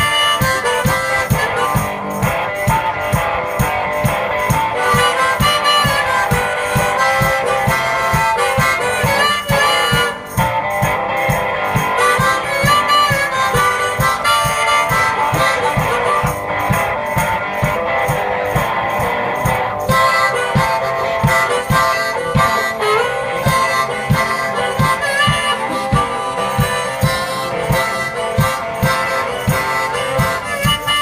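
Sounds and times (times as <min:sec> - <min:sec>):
harmonica and guitar music: 0:00.0 - 0:31.0
low thumping beat: 0:00.0 - 0:31.0.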